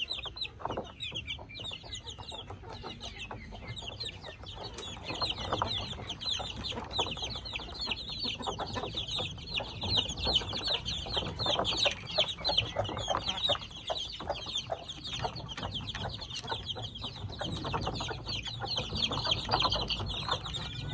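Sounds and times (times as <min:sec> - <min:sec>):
chicks peeping: 0:00.0 - 0:20.9
hen clucking: 0:00.0 - 0:20.9.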